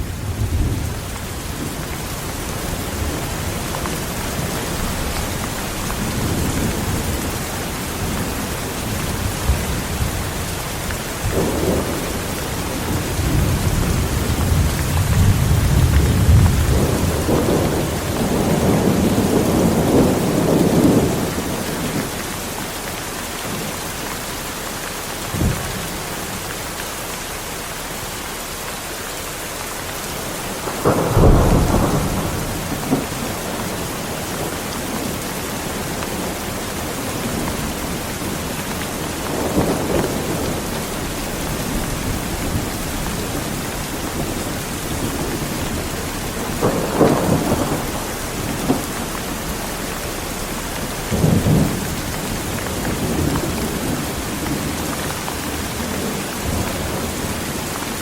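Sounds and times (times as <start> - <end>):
rolling thunder: 0.0 - 22.1, 30.4 - 57.7
heavy rain falling: 0.0 - 58.0.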